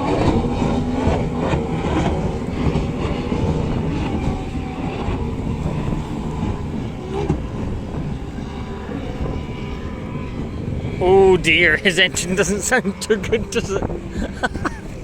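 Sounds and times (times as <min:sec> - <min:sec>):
powerboat engines droning: 0:00.0 - 0:15.0.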